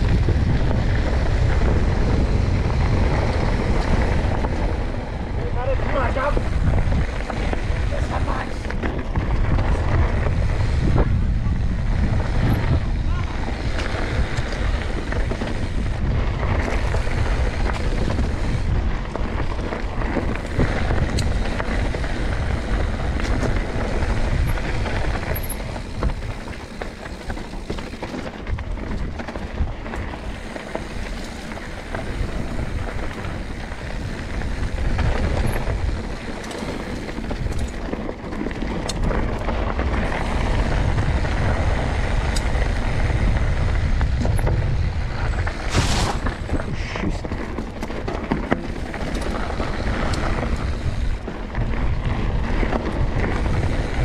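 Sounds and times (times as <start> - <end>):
bike rattles and knocks: 0.0 - 54.0
tyres rumbling on dirt: 0.0 - 54.0
wind buffeting microphone: 0.0 - 54.0.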